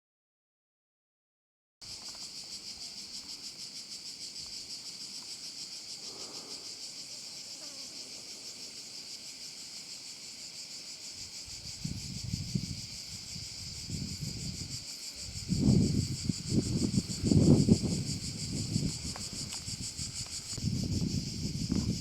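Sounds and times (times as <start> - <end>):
insects chirring in pulses: 1.8 - 22.0.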